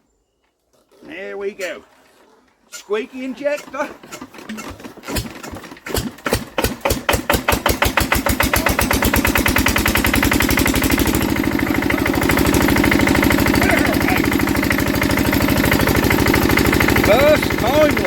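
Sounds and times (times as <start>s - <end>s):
diesel engine starting and running: 2.7s - 18.0s.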